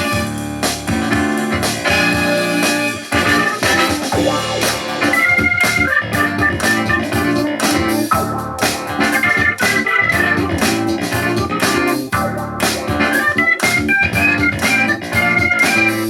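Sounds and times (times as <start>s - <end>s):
keyboard music with steady beat: 0.0s - 16.0s.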